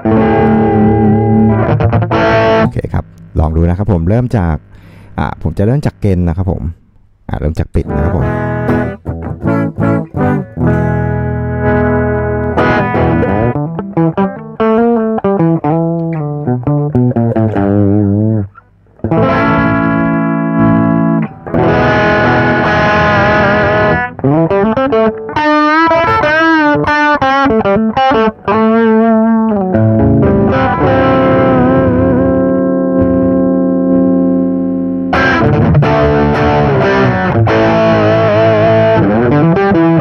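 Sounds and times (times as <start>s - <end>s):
overdriven electric guitar: 0.0s - 3.4s, 7.8s - 40.0s.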